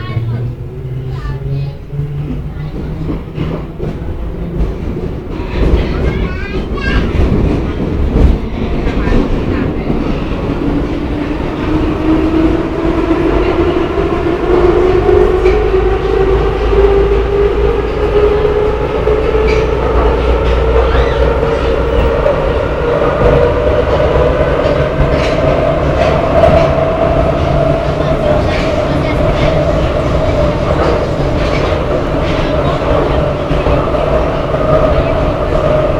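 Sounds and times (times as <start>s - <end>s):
train wheels rumbling on rail: 0.0s - 35.9s
train whine: 0.0s - 35.9s
train clicks: 2.1s - 35.9s.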